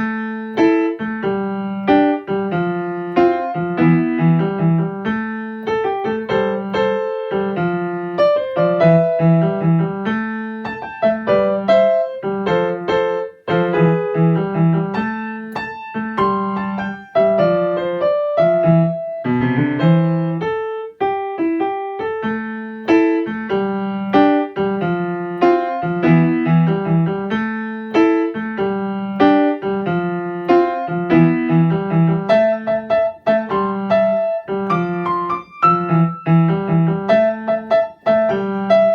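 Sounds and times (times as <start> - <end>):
solo blues piano: 0.0 - 38.9.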